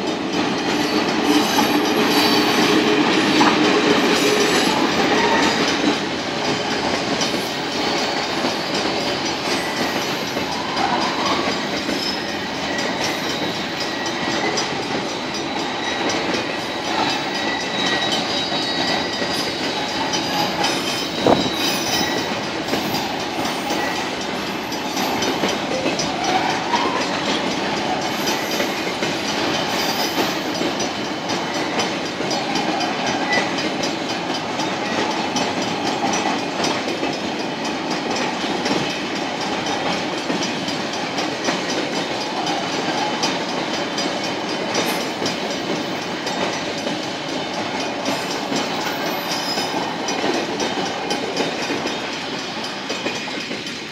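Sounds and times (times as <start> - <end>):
crossing bells ringing: 0.0 - 53.9
train wheels clacking on rail joints: 0.0 - 53.9.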